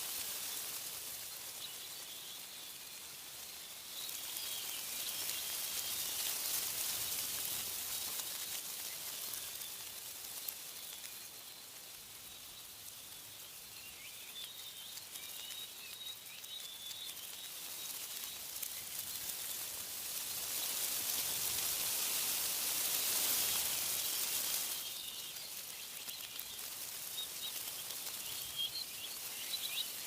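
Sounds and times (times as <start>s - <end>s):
wind rustling tree leaves: 0.0s - 30.0s
faint high bird chirps: 0.3s - 19.7s, 22.9s - 30.0s.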